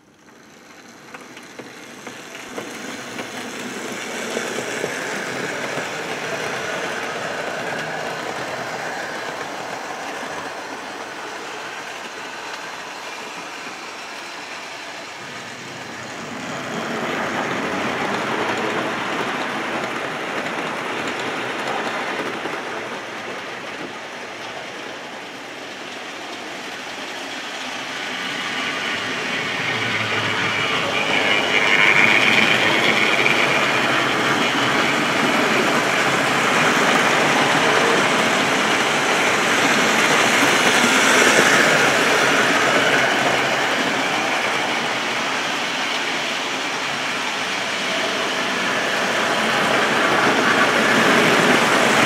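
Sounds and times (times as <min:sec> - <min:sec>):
model trains whirring on track: 0:00.0 - 0:52.0.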